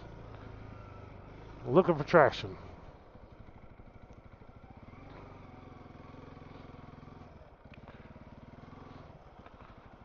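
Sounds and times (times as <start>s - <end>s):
motorcycle engine at low throttle: 0.0s - 10.0s.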